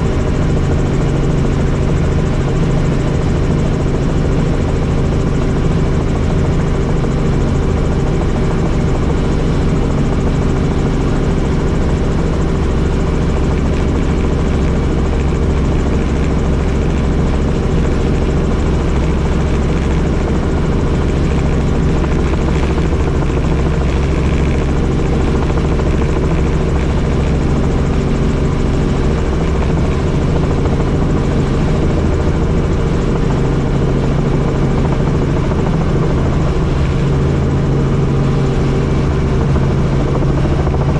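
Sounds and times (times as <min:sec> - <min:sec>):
helicopter in flight: 0:00.0 - 0:40.9.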